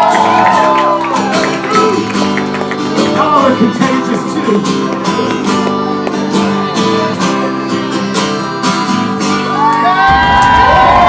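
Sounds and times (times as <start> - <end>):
acoustic guitar strumming: 0.0 - 10.6.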